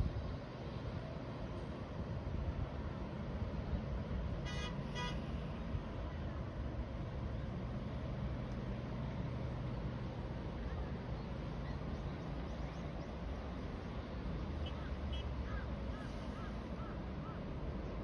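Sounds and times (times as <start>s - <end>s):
distant city traffic hum: 0.0s - 18.0s.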